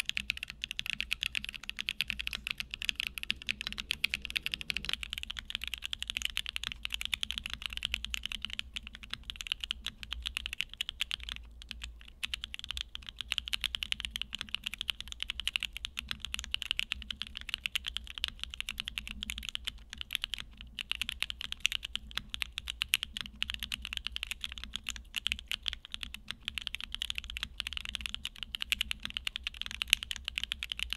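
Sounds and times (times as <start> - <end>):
mechanical keyboard typing: 0.0 - 30.9.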